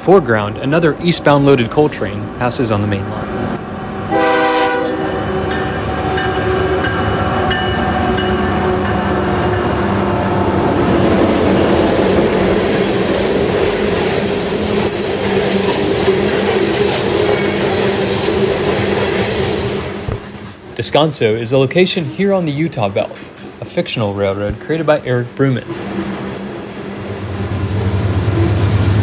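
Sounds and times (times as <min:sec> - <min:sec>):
diesel locomotive engine: 0:00.0 - 0:20.8, 0:22.0 - 0:29.0.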